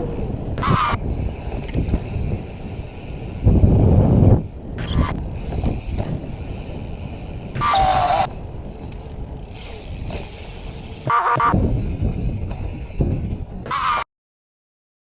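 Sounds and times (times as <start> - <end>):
bike rolling: 0.0 - 14.0
wind on microphone: 0.0 - 14.0.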